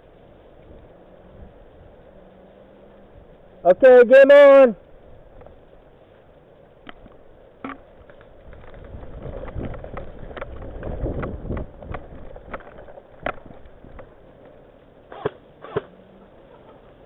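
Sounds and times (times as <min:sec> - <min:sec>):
low rumbling rustle: 0:00.0 - 0:04.1, 0:04.7 - 0:17.0.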